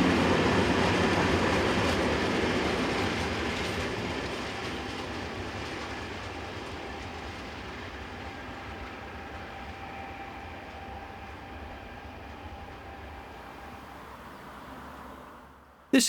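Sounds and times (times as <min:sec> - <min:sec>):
train wheels clicking on track: 0:00.0 - 0:14.2.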